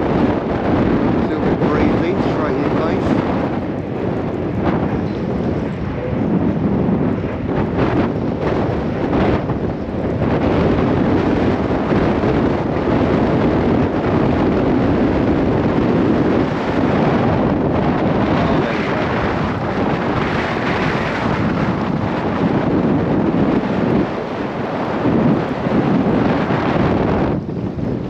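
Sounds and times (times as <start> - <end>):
strong wind buffeting microphone: 0.0 - 28.0.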